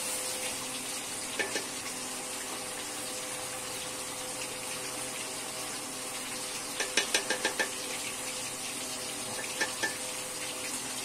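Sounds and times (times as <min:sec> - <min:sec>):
curry sizzling in a pot: 0:00.0 - 0:11.0.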